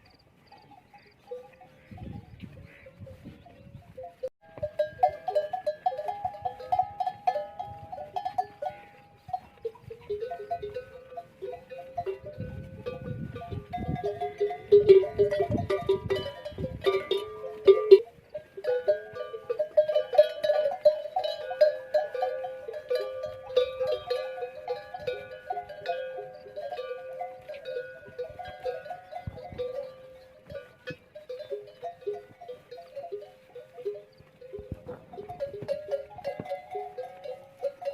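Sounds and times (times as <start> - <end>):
camel bells clanking: 0.5 - 37.9.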